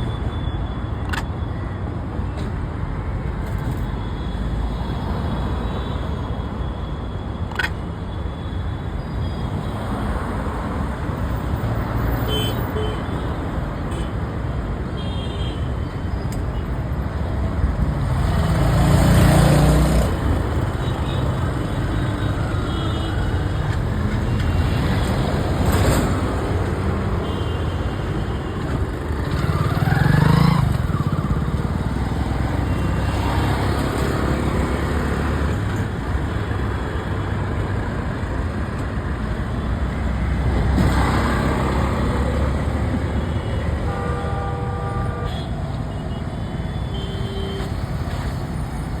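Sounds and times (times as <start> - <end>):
road traffic: 0.0 - 49.0.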